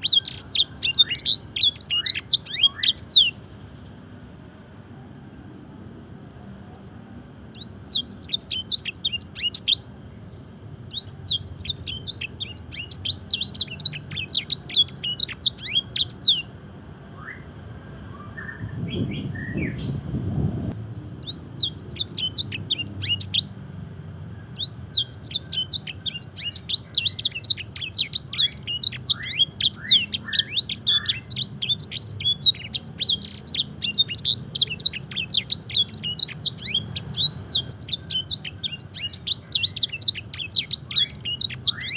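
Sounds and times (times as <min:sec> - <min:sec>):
canary singing: 0:00.0 - 0:04.2, 0:07.5 - 0:16.6, 0:17.2 - 0:20.0, 0:21.0 - 0:23.7, 0:24.3 - 0:41.9.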